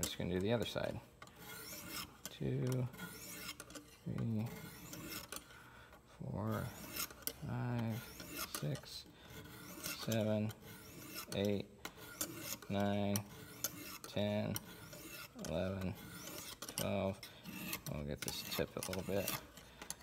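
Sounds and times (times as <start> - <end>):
hone scraping knife edge: 0.0 - 20.0.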